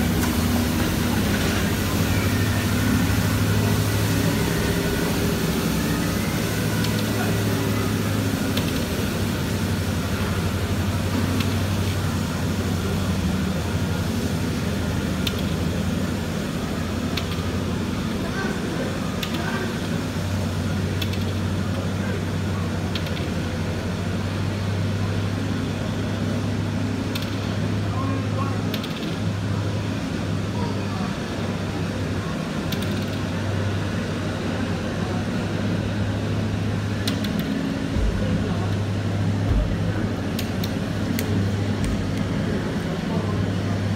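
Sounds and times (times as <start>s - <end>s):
ice resurfacer engine hum: 0.0s - 43.9s.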